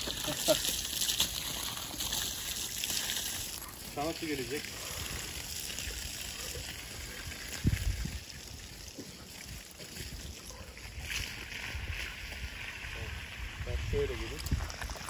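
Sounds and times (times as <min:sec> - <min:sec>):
water spraying from hose: 0:00.0 - 0:15.0.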